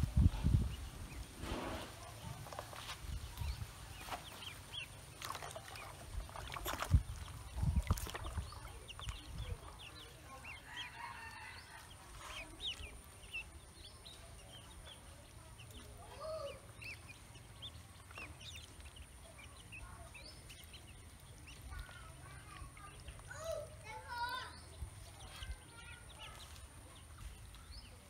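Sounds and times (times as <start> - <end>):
ducklings peeping: 0.0 - 28.0.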